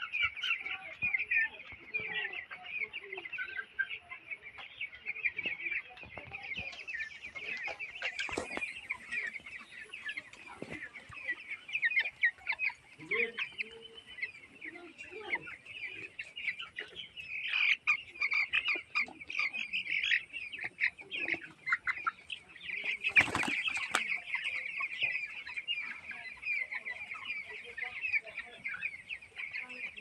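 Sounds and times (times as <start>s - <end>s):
chicks peeping and chirping: 0.0s - 30.0s.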